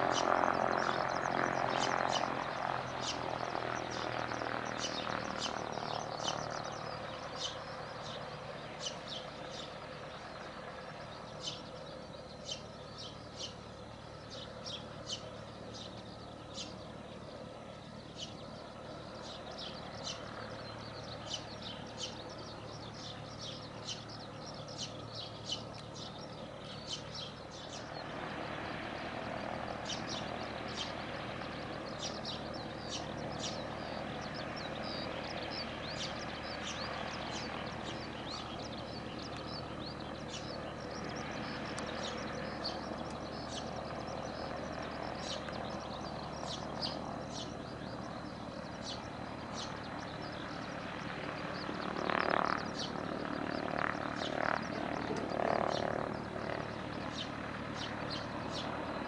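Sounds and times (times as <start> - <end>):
birds chirping: 0.0 - 59.0
propeller plane engine humming: 0.0 - 59.0.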